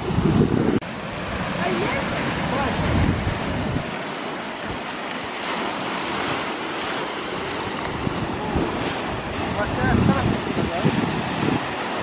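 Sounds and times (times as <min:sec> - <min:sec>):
sea waves splashing against rocks: 0:00.0 - 0:12.0
wind buffeting microphone: 0:00.0 - 0:12.0.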